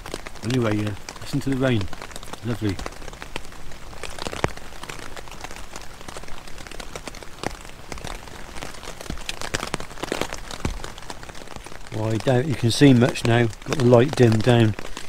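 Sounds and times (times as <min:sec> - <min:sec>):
rain pattering on tent fabric: 0:00.0 - 0:15.0.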